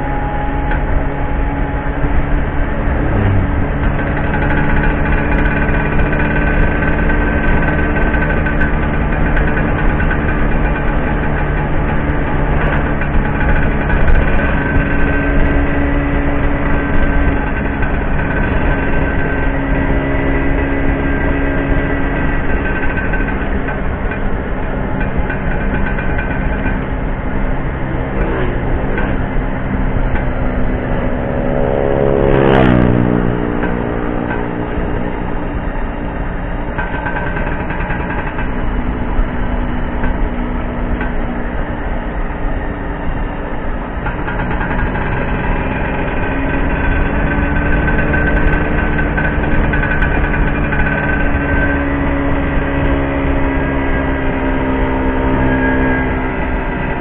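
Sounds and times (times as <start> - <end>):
two-stroke scooter engine running: 0.0 - 57.0.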